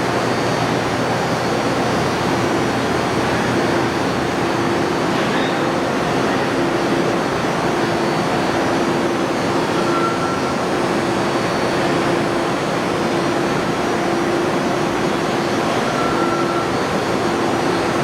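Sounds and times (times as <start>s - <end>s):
milling machine whirring: 0.0s - 18.0s.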